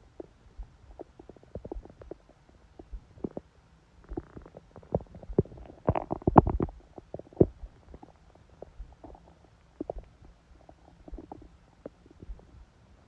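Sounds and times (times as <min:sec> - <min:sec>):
stomach growling: 0:00.0 - 0:12.7.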